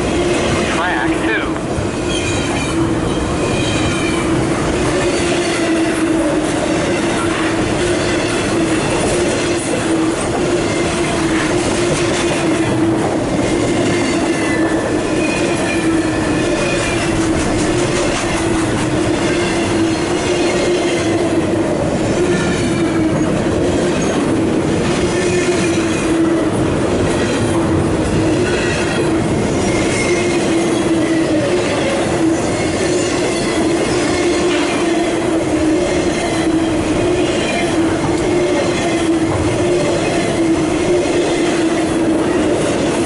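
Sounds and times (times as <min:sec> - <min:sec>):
train wheels on rails: 0:00.0 - 0:43.0.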